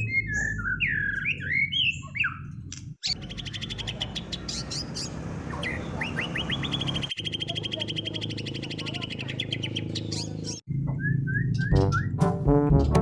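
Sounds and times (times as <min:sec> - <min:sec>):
songbirds singing: 0:00.0 - 0:12.2.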